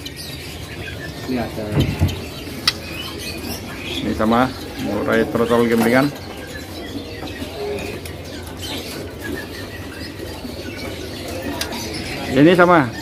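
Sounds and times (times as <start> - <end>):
market crowd hubbub: 0.0 - 13.0
songbirds chirping: 0.0 - 13.0.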